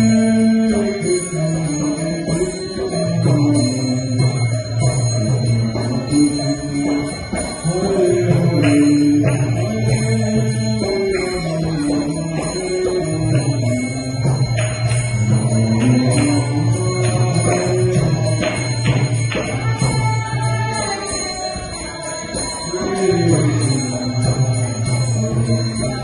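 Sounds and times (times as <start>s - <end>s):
person singing: 0.0s - 26.0s
ringing metallic strikes: 0.0s - 26.0s.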